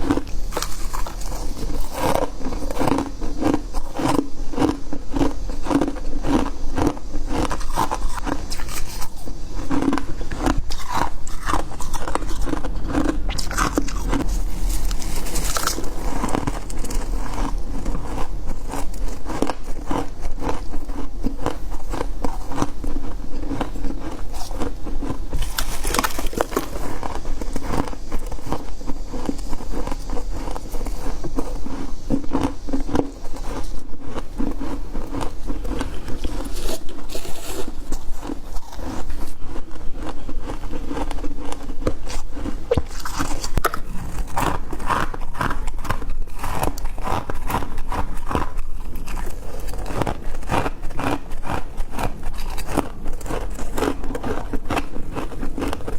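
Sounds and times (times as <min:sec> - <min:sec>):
person chewing crunchy frost: 0:00.0 - 0:55.9.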